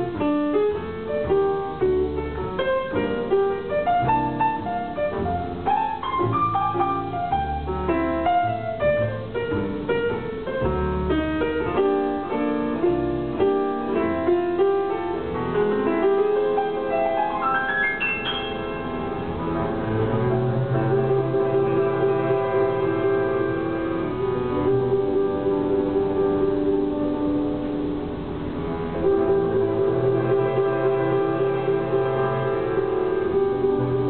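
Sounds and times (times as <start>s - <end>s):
plucked double bass: 0.0s - 17.1s, 18.0s - 34.0s
piano run: 0.0s - 34.0s.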